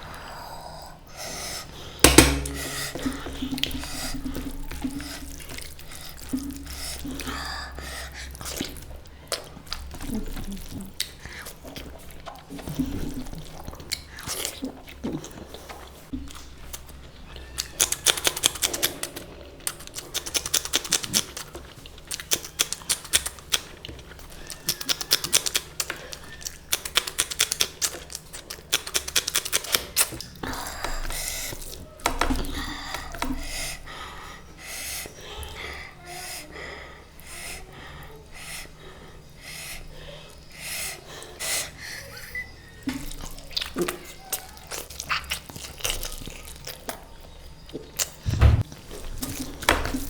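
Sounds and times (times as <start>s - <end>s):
chewing and crunching food: 0.0s - 50.0s.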